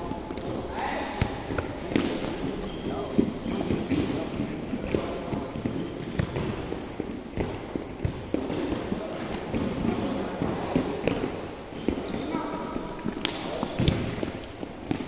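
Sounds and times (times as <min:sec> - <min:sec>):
balls bouncing on court: 0:00.0 - 0:15.0.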